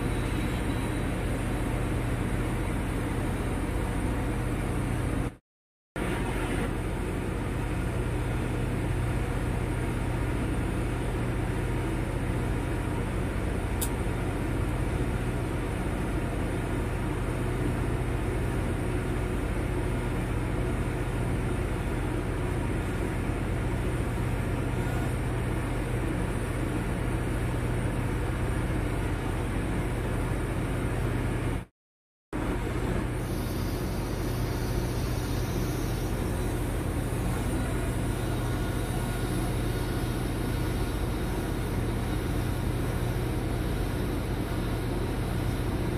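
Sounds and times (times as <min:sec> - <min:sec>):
welding hum and hiss: 0:06.0 - 0:31.7, 0:32.4 - 0:45.9.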